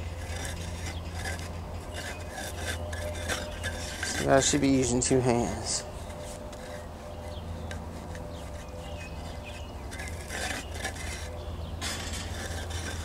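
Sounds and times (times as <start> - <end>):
soil scraping by hand: 0.0 - 13.0.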